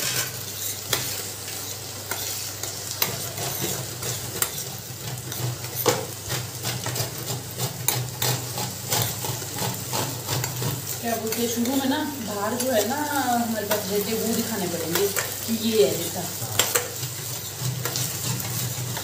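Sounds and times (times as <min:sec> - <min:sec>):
coconut grated by hand: 0:00.0 - 0:19.0
food sizzling: 0:00.0 - 0:19.0
spoon scraping a pan: 0:00.0 - 0:19.0.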